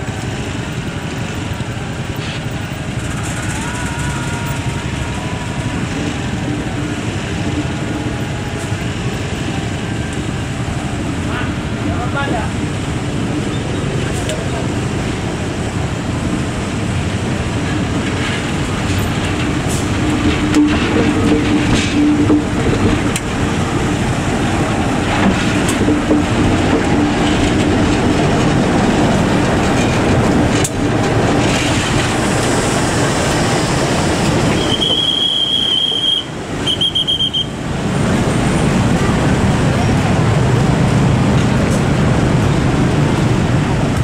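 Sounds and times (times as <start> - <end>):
diesel locomotive engine: 0.0 - 44.0
wheels rumbling on rail: 0.0 - 44.0.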